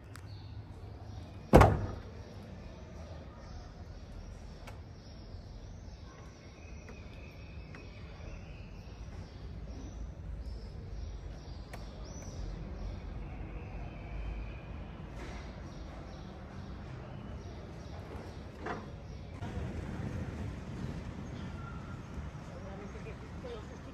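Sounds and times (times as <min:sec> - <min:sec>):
low steady street rumble: 0:00.0 - 0:23.9.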